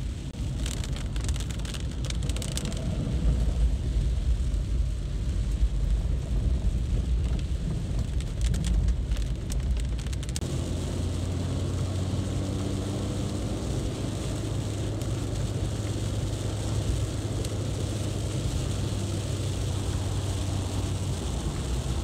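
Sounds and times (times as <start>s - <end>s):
rain and wet tyres hissing: 0.0s - 22.0s
vehicle engine and road rumble: 0.0s - 22.0s.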